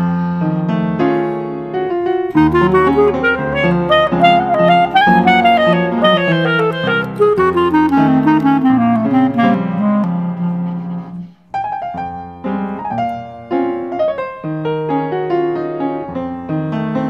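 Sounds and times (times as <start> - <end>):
piano: 0.0 - 17.0
clarinet: 2.2 - 17.0.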